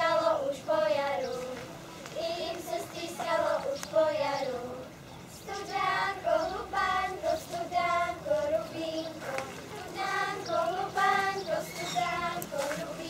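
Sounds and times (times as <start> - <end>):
girls singing in unison: 0.0 - 13.0.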